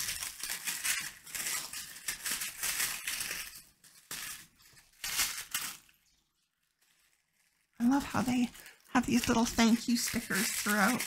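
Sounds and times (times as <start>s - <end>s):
paper crinkling and crackling: 0.0s - 11.0s.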